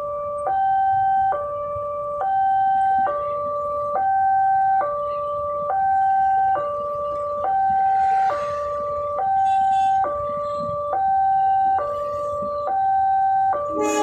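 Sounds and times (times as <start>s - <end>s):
level crossing two-tone alarm: 0.0s - 14.0s.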